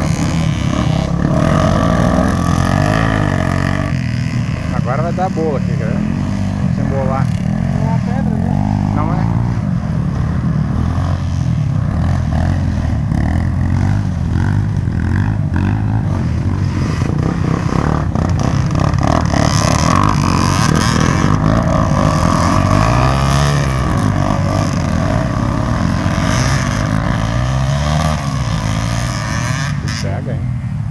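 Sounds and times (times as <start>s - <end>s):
dirt bike engine revving: 0.0s - 30.4s.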